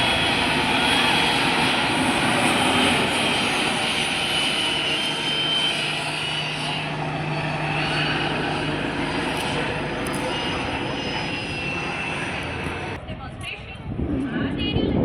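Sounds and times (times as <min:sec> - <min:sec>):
helicopter engine and rotor drone: 0:00.0 - 0:14.6.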